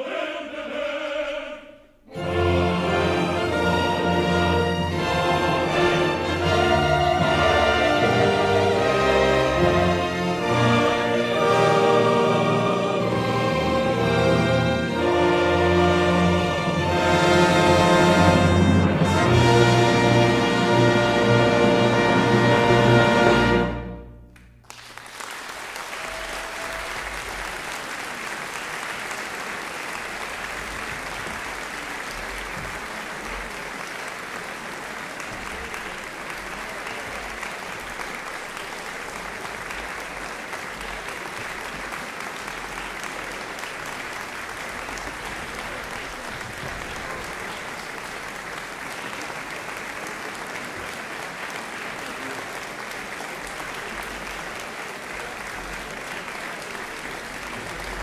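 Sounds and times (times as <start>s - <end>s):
audience applauding: 2.2s - 58.0s.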